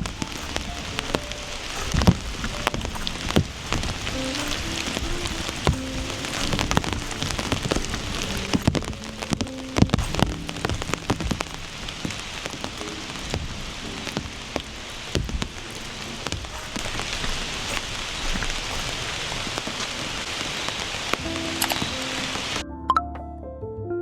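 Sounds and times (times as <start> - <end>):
faint musical notes: 0.0 - 19.6
steady rain: 0.0 - 22.6.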